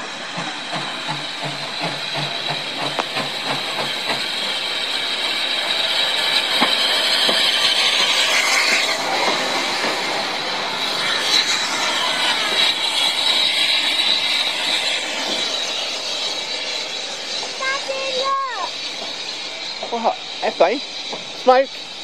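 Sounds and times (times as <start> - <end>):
loud hiss of steam: 0.0 - 22.0
steam locomotive exhaust beats: 0.0 - 22.0.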